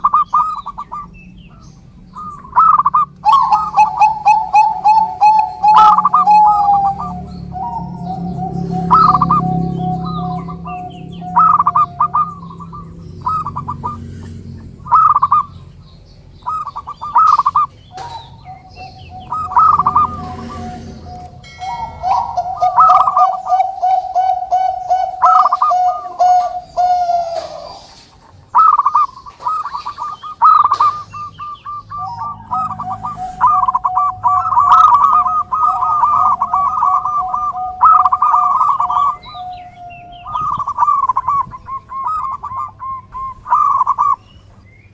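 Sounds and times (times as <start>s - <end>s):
doves cooing: 0.0s - 44.6s.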